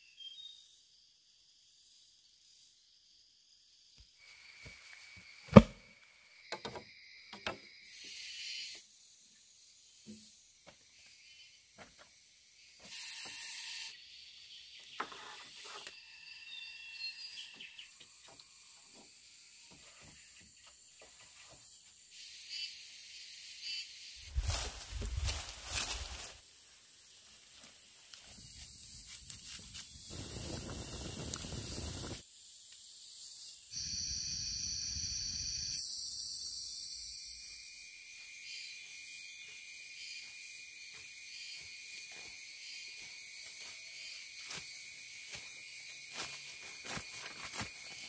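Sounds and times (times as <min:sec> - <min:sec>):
insects trilling and buzzing: 0:00.0 - 0:48.0.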